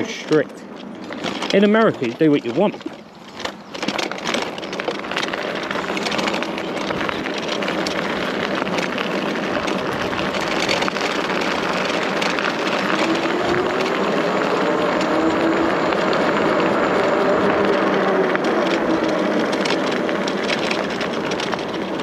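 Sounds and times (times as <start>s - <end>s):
tyre and road noise: 0.0s - 22.0s
wind rushing over microphone: 3.6s - 22.0s.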